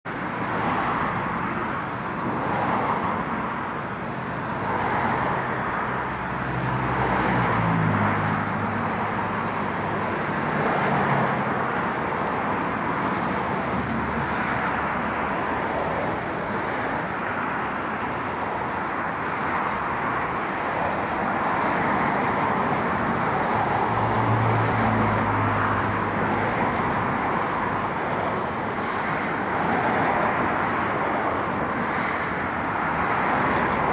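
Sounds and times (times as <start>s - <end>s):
cars passing: 0.0s - 33.9s.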